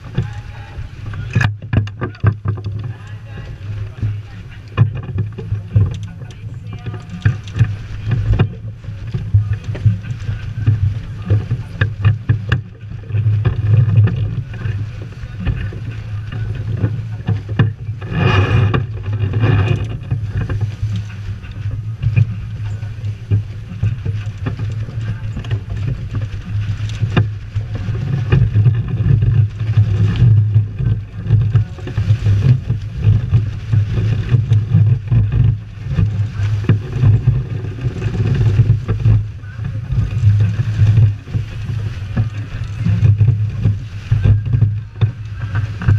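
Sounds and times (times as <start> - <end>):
water rushing along hull: 0.0 - 45.9
wind buffeting microphone: 0.0 - 45.9.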